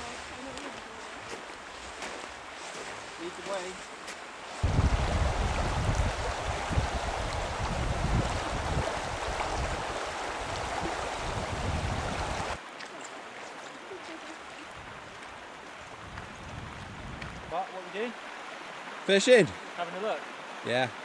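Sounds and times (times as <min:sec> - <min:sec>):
rushing river water: 0:00.0 - 0:21.0.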